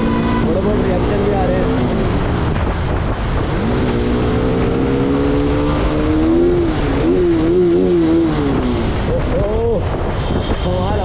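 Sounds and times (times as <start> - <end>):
motorcycle engine accelerating: 0.0 - 9.8.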